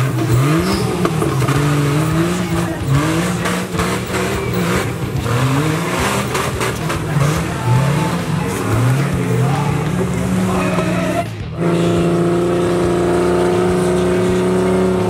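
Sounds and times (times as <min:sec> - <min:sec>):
buggy engine revving hard: 0:00.0 - 0:15.0.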